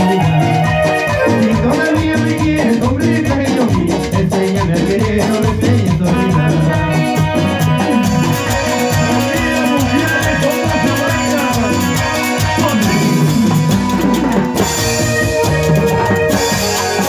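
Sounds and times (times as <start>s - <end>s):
latin dance band music: 0.0s - 17.0s
person singing: 0.0s - 17.0s.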